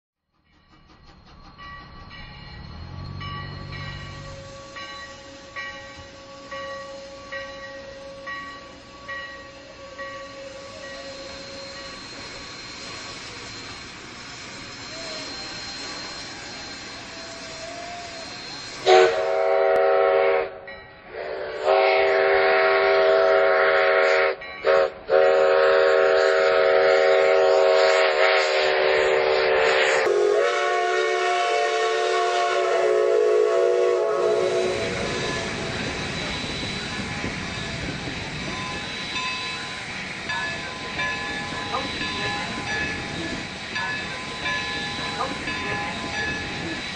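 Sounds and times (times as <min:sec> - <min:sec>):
train running rumble: 0:00.3 - 0:46.9
faint steam hiss: 0:00.5 - 0:20.4, 0:21.0 - 0:46.9
steam locomotive whistle blasts: 0:02.7 - 0:46.9.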